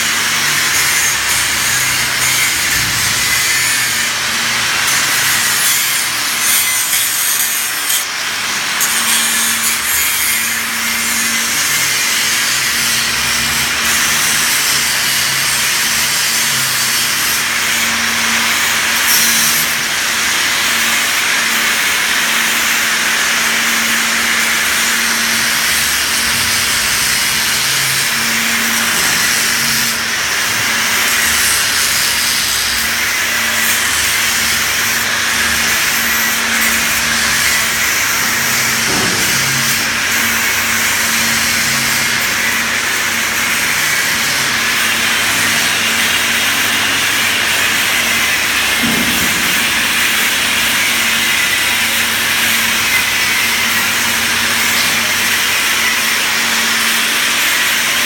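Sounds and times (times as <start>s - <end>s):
welding arc hissing: 0.0s - 57.9s.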